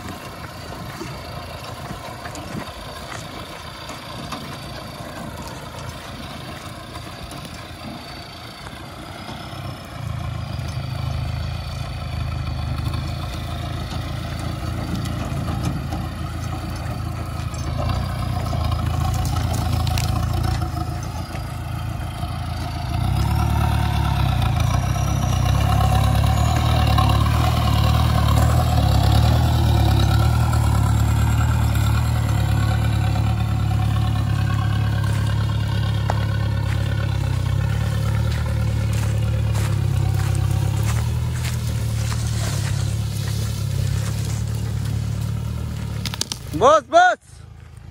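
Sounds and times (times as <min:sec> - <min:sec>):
pickup truck drivetrain whine: 0:00.0 - 0:47.9.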